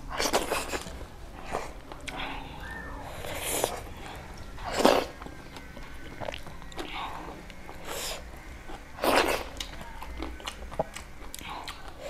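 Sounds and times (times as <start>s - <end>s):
chewing with wet mouth clicks: 0.1s - 2.4s, 3.2s - 12.0s
noisy slurps: 0.1s - 12.0s.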